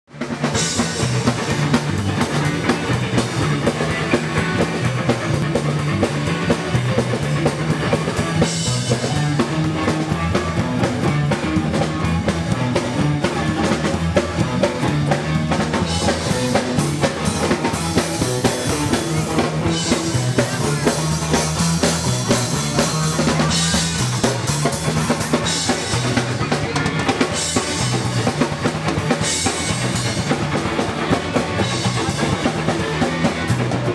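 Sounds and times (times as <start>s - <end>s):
bass line: 0.1s - 33.9s
drum kit steady beat: 0.1s - 33.9s.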